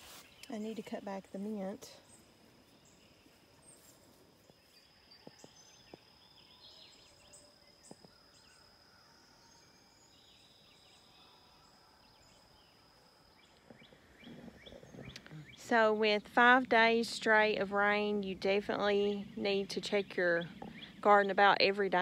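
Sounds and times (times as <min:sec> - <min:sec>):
distant bird chirps: 0:00.0 - 0:22.0.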